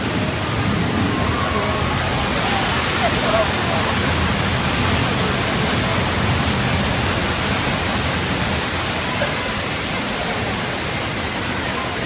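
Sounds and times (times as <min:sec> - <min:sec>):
torrent of water rushing: 0:00.0 - 0:12.0.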